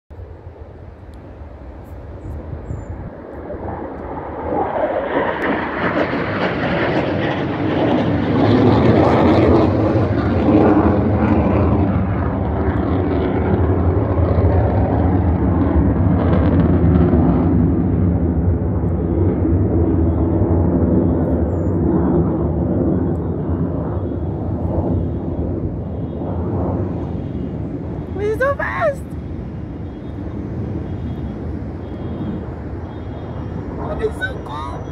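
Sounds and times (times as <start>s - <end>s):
jet roar passing overhead: 0.1s - 34.9s.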